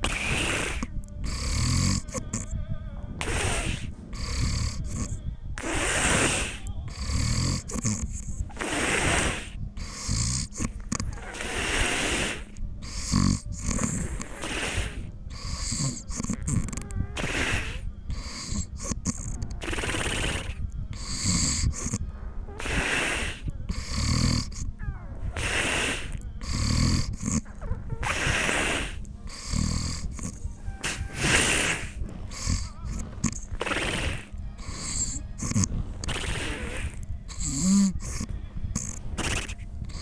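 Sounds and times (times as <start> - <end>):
snoring with rattling buzz: 0.0 - 40.0.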